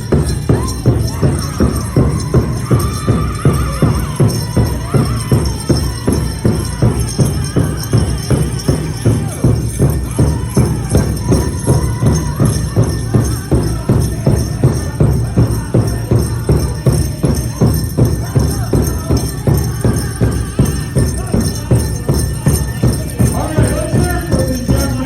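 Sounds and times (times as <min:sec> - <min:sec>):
big drum steady beat: 0:00.0 - 0:25.0
metallic jingling: 0:00.0 - 0:25.0
singers' voices: 0:00.0 - 0:25.0.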